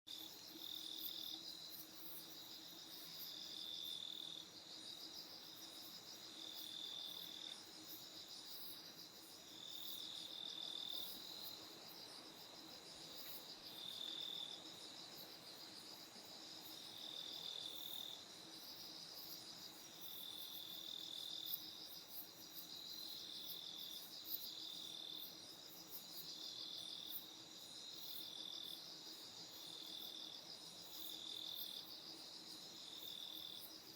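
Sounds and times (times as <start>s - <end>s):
night insects chirping: 0.1s - 33.9s.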